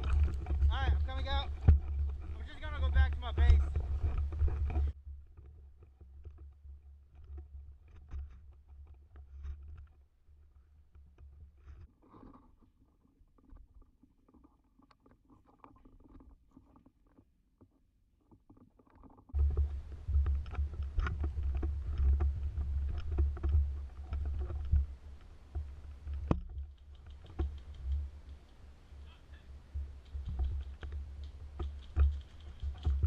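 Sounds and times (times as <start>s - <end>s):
low rumble with crackling: 0.0s - 16.9s, 19.2s - 33.0s
faint rustling: 0.0s - 33.0s.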